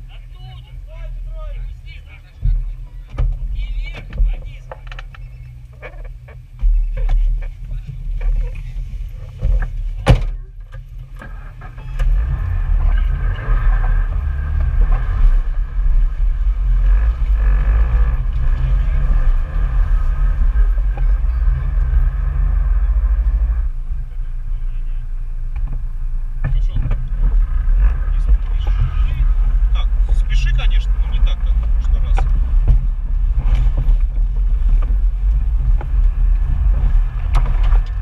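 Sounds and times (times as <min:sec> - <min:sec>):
vehicle engine under load: 0:00.0 - 0:38.0
wind rumble on microphone: 0:00.0 - 0:38.0.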